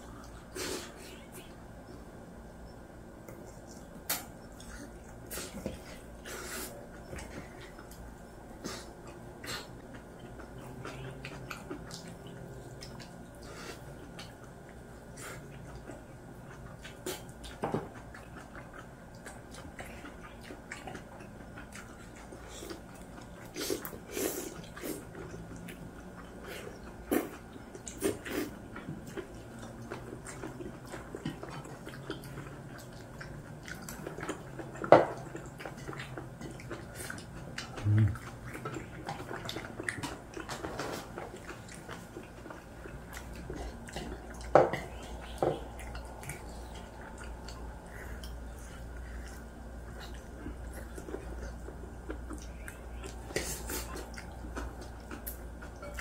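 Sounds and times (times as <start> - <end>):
people chewing meat: 0.0 - 56.0.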